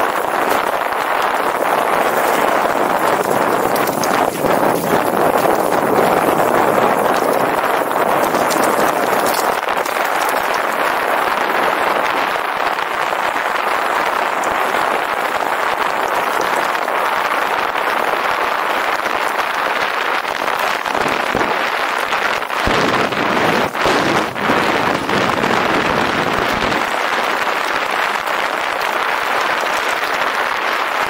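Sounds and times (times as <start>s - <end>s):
bicycle tyres on gravel: 0.0s - 31.0s
wind on microphone: 0.0s - 31.0s.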